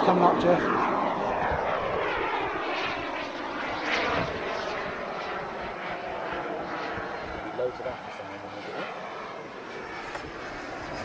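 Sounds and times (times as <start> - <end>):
model jet turbine whine: 0.0 - 11.0.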